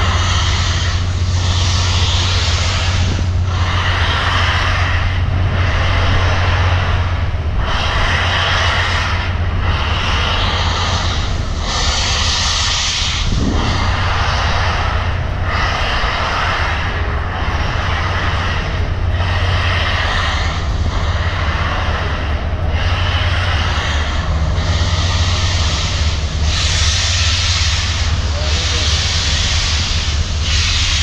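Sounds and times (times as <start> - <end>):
rushing steam noise: 0.0 - 31.0
steam train rumbling: 0.0 - 31.0.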